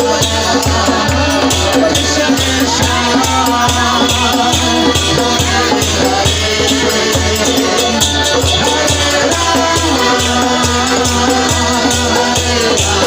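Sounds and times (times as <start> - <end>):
drum beat: 0.0 - 13.0.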